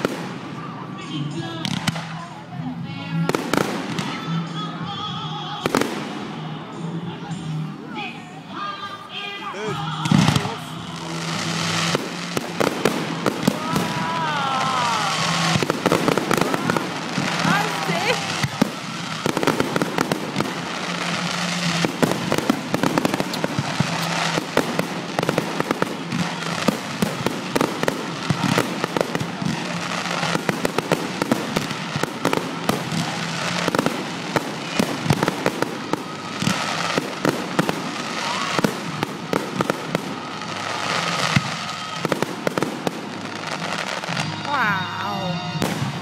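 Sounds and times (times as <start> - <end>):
fireworks bangs and crackling: 0.0 - 8.1, 9.6 - 46.0.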